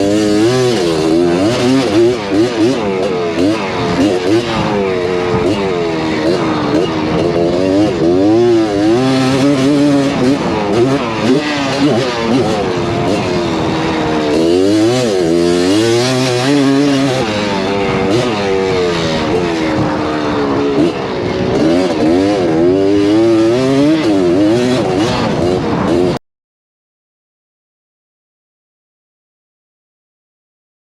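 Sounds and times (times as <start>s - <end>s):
two-stroke engine revving: 0.0s - 26.2s.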